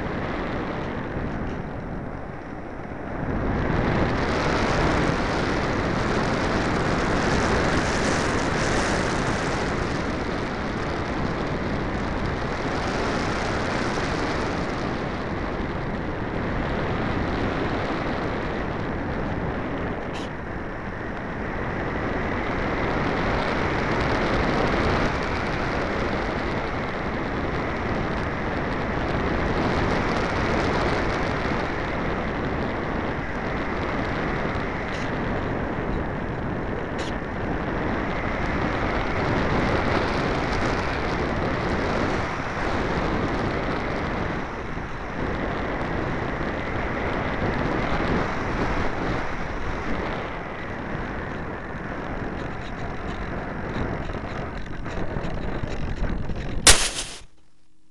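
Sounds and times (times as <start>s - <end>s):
wind rushing over microphone: 0.0s - 57.3s.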